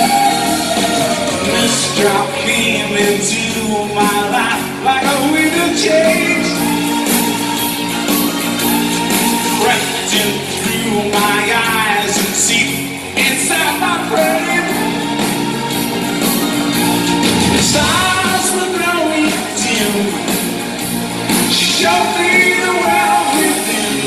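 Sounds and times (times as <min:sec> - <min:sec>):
keyboards: 0:00.0 - 0:24.0
live rock band playing: 0:00.0 - 0:24.0.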